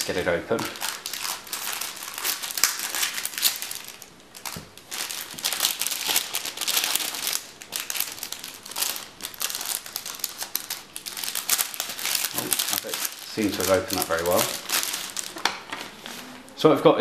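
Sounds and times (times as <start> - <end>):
plastic bag crinkling: 0.0 - 16.6.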